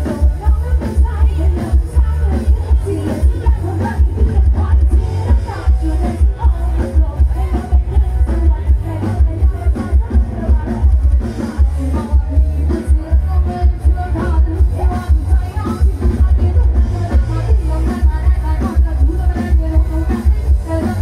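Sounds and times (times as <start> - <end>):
live band playing dance music: 0.0 - 21.0
women singing into microphones: 0.0 - 21.0.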